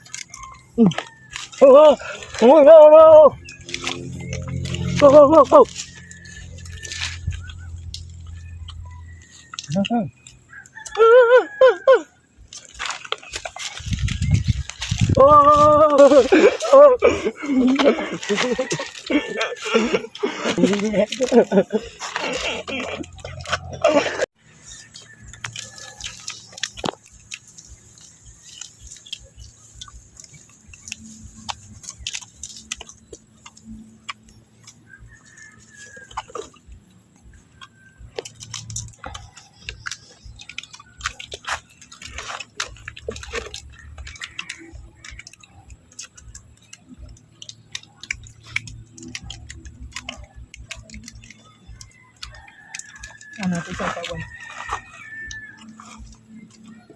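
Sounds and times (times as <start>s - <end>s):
person chewing fruit: 0.0s - 56.9s.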